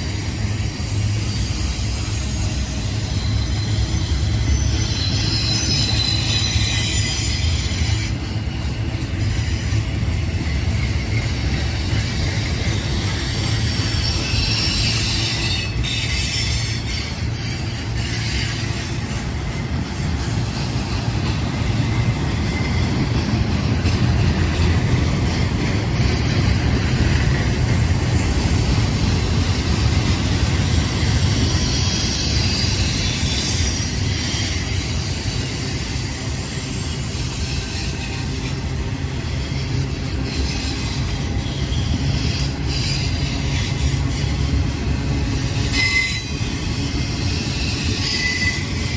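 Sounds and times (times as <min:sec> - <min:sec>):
freight train rumbling past: 0:00.0 - 0:48.9
high wheel squeal: 0:00.0 - 0:48.9.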